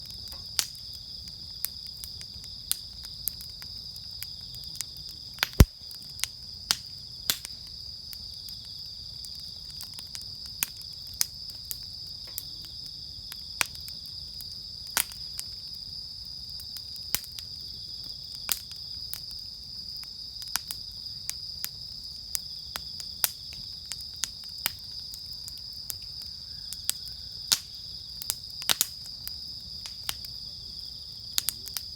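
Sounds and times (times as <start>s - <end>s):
bonfire wood crackling: 0.0s - 31.9s
insects chirring: 0.0s - 31.9s.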